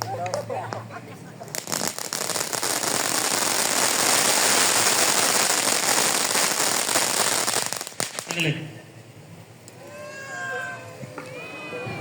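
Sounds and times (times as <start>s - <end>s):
fireworks crackling and hissing: 0.0s - 10.0s.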